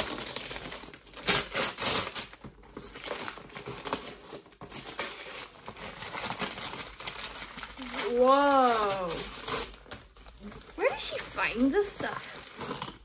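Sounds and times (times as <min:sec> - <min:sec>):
wrapping paper crinkling and tearing: 0:00.0 - 0:13.0.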